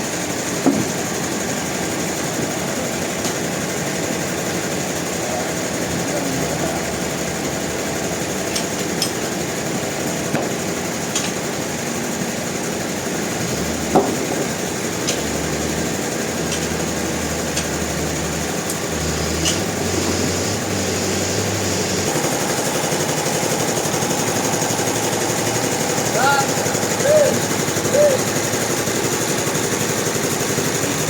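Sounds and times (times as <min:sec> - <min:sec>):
sawmill machinery running: 0:00.0 - 0:31.0.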